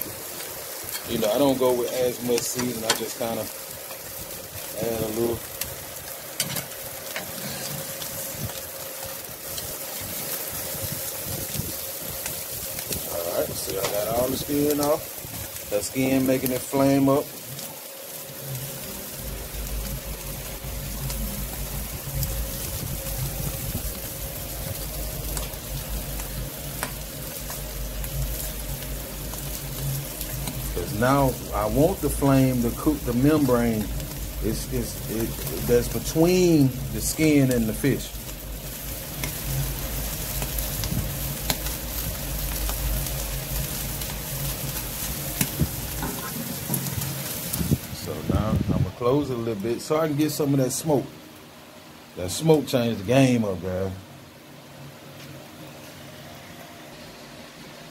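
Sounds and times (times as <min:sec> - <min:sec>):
fish sizzling on a grill: 0:00.0 - 0:57.9
low rumble of fire: 0:00.0 - 0:57.9.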